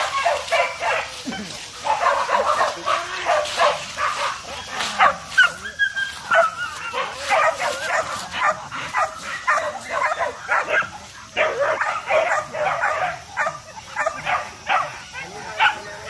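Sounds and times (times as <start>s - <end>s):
young dogs yelping and barking: 0.0s - 16.0s.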